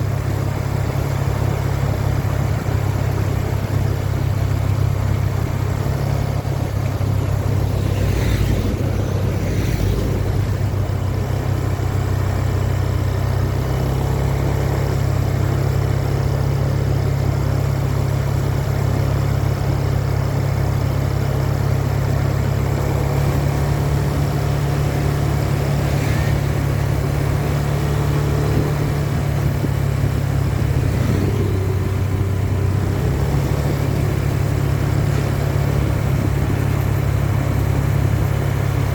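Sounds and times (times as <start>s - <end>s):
large vehicle engine idling: 0.0s - 38.9s.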